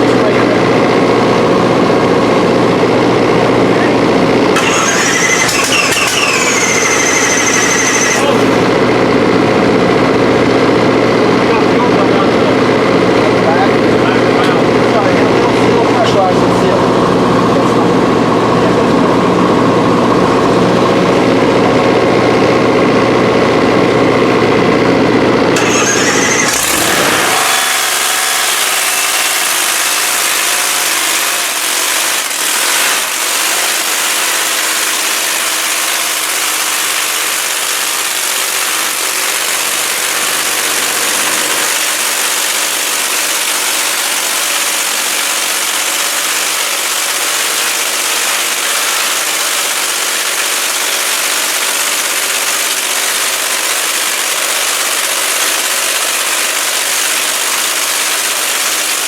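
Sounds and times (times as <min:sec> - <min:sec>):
truck engine idling loudly: 0:00.0 - 0:59.0.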